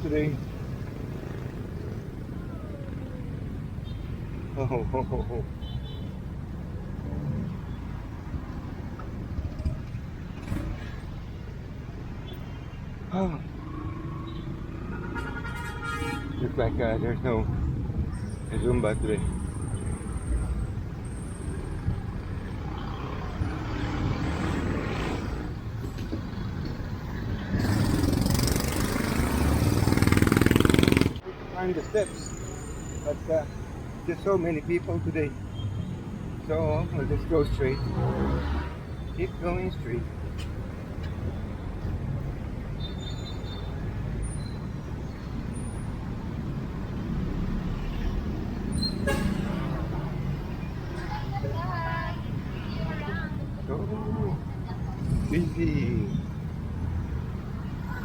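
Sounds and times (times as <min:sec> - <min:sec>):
vehicle engines rumbling: 0:00.0 - 0:58.0.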